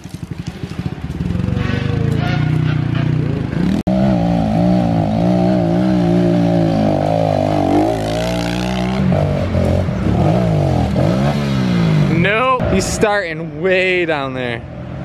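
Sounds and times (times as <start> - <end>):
dirt bike engine revving: 0.3 - 12.5.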